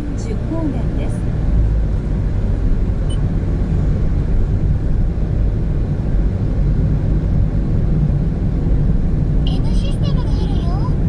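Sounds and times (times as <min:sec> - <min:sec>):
road and engine rumble inside car: 0:00.0 - 0:11.0.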